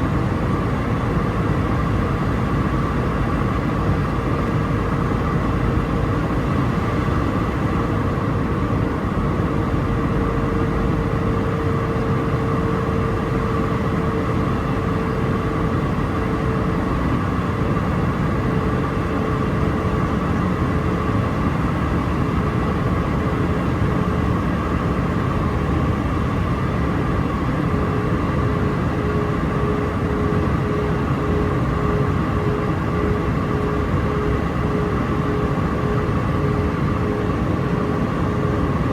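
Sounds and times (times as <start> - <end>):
jet engine rumble in cabin: 0.0 - 38.9
mid-pitched pulsing hum: 0.0 - 38.9.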